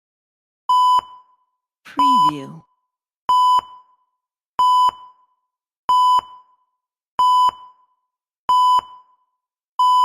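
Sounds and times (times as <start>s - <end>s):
heart monitor beeps: 0.7s - 2.6s, 3.3s - 10.0s.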